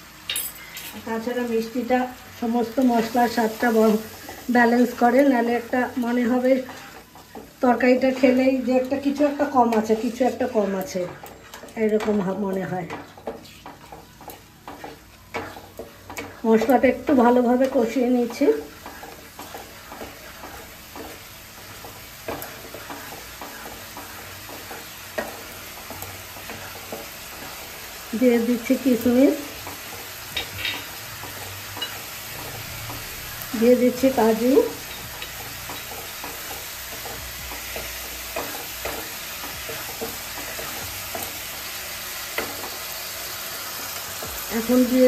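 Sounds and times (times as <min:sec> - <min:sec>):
paste sizzling in oil: 0:01.0 - 0:45.0
spatula scraping pan: 0:02.7 - 0:45.0.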